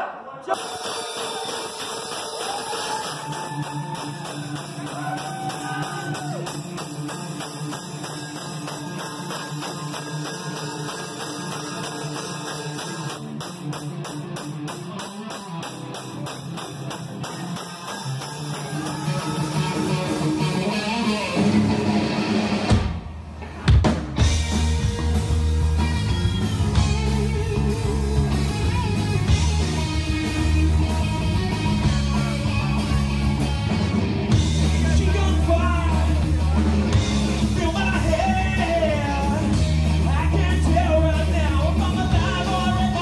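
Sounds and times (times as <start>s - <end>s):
drum kit beat: 0.5s - 43.0s
electric guitar: 0.6s - 43.0s.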